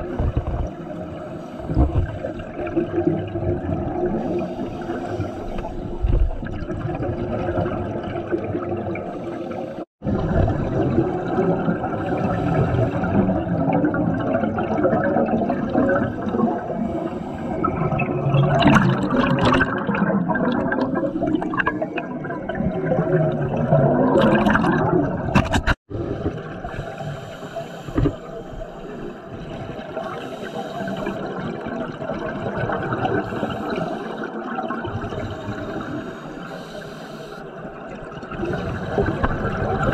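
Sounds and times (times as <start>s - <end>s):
underwater regulator bubbles: 0.0s - 39.9s.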